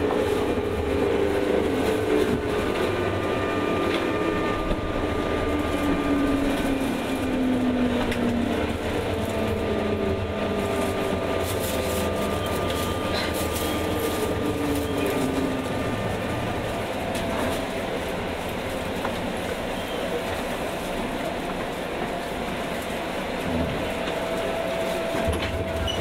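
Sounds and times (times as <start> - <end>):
train running gear whine: 0.0 - 26.0
train wheels rumbling on rails: 0.0 - 26.0.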